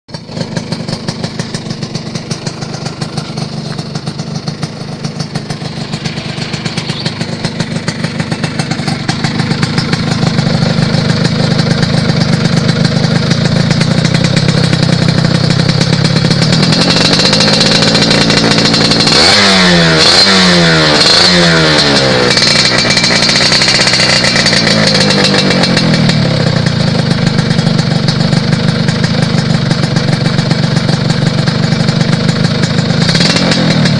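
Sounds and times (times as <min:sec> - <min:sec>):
motorcycle engine idling and revving: 0:00.1 - 0:33.9.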